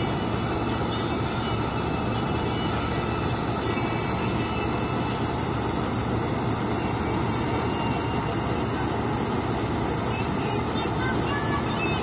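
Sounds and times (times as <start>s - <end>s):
auger discharging grain: 0.0s - 12.0s
combine harvester engine running: 0.0s - 12.0s.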